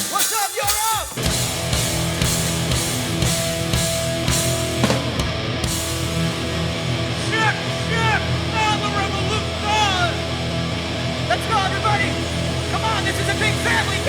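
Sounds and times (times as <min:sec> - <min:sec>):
drums keeping steady beat: 0:00.0 - 0:14.0
heavy distorted guitar music: 0:00.7 - 0:14.0.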